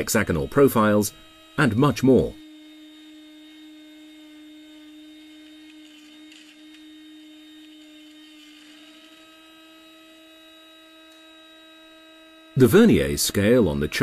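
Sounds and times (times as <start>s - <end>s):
milling machine motor whine: 0.0s - 14.0s.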